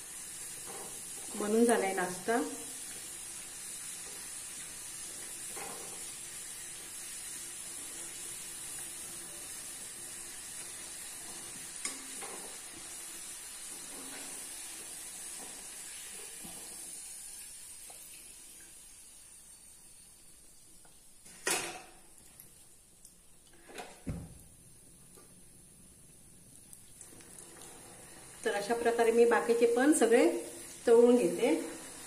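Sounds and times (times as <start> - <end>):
balls deep-frying in oil: 0.0 - 32.0.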